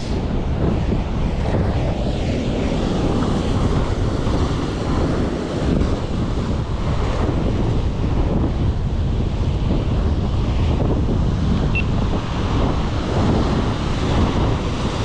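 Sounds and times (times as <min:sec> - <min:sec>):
wind buffeting microphone: 0:00.0 - 0:15.0
ocean surf breaking over rocks: 0:02.4 - 0:15.0.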